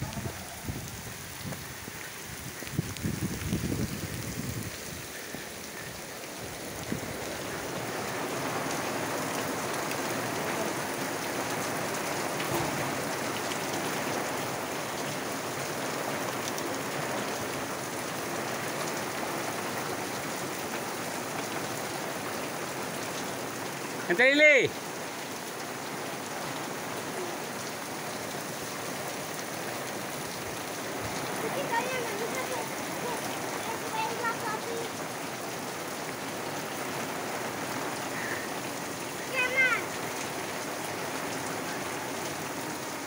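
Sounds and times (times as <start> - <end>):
rain falling steadily: 0.0 - 43.0.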